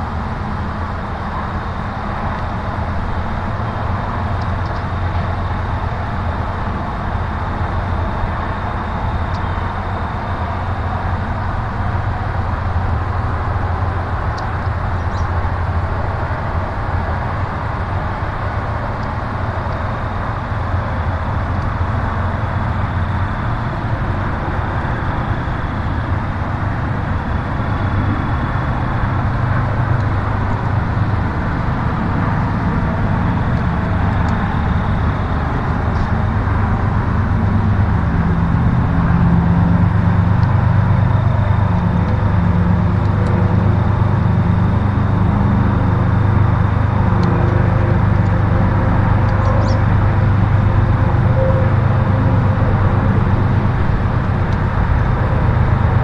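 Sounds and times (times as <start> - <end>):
low motor rumble: 0.0 - 56.0.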